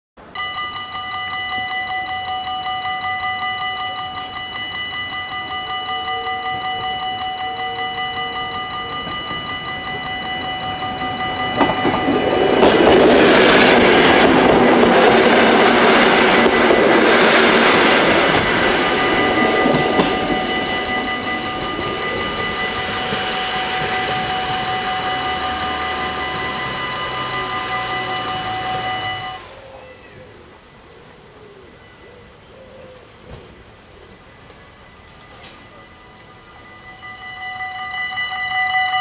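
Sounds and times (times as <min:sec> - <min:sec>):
level crossing bells ringing: 0:00.2 - 0:29.6, 0:34.7 - 0:39.0
electric train passing: 0:00.2 - 0:39.0.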